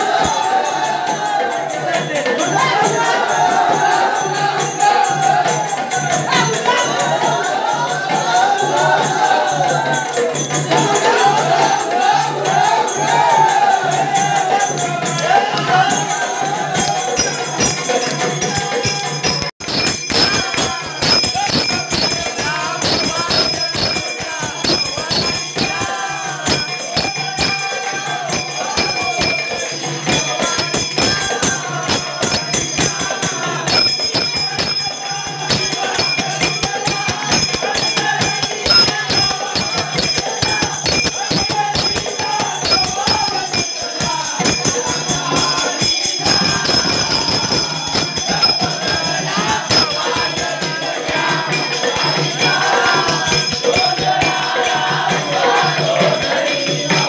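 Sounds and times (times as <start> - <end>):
amplified devotional singing: 0.0 - 57.0
fast drumming with sticks: 0.0 - 57.0.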